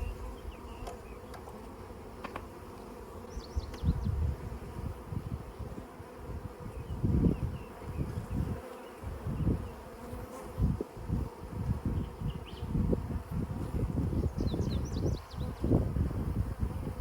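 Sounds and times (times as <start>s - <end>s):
wind rumble on microphone: 0.0s - 1.2s, 3.3s - 17.0s
honeybees buzzing: 0.0s - 17.0s.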